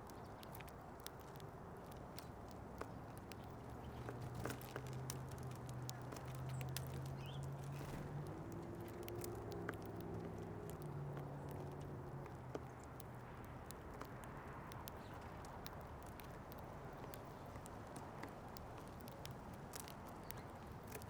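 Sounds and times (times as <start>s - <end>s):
birds pecking at seed: 0.0s - 21.0s.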